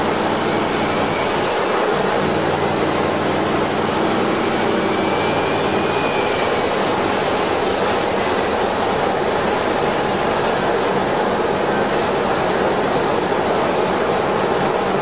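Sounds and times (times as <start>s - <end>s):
race engine roaring: 0.0s - 15.0s.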